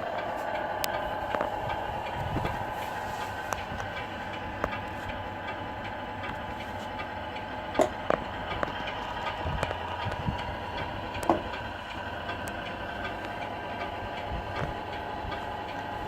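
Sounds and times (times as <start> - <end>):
model truck mechanical hum: 0.0 - 16.0.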